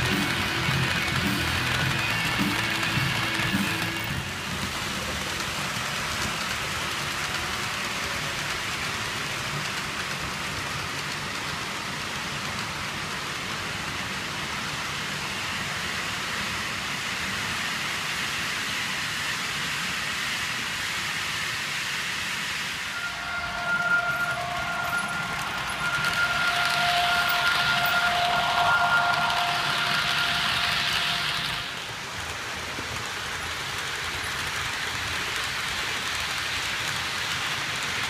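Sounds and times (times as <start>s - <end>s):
model train wheels rolling on rails: 0.0s - 38.0s.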